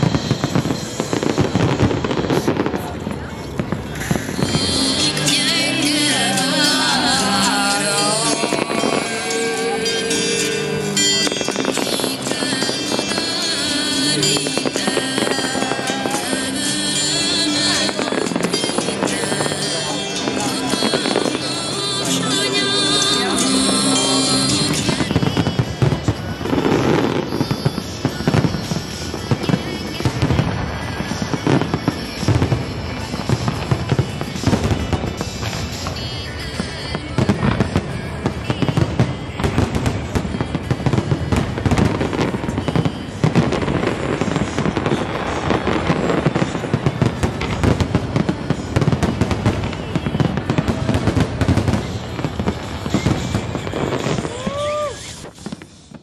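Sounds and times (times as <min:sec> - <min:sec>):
music playing: 0:00.0 - 0:56.0.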